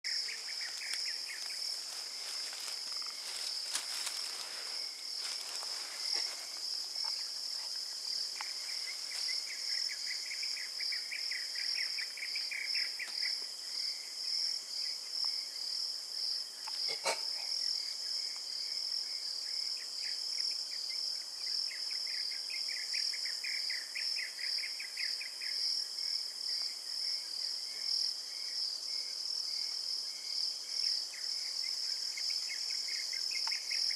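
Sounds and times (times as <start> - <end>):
high-pitched insect trill: 0.1 - 33.9
lower rapid insect trill: 0.1 - 33.9.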